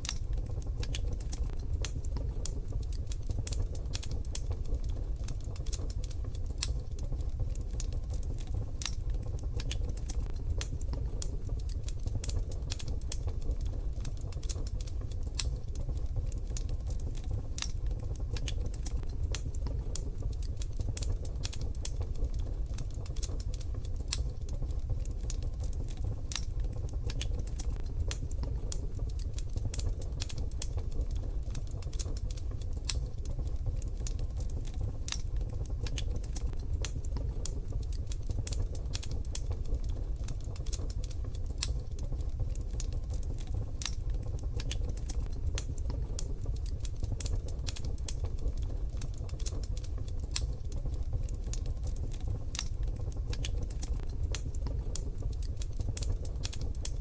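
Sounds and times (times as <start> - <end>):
steady low rumble: 0.0 - 57.0
wood fire crackling: 0.0 - 57.0.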